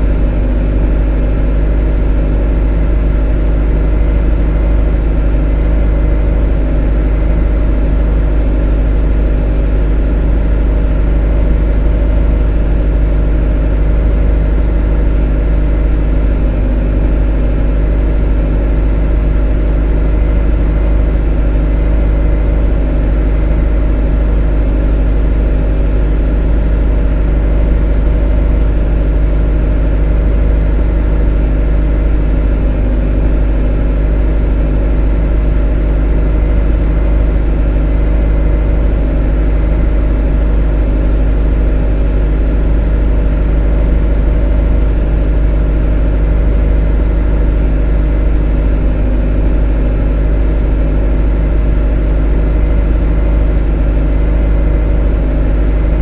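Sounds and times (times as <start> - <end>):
motor droning steadily: 0.0 - 56.0.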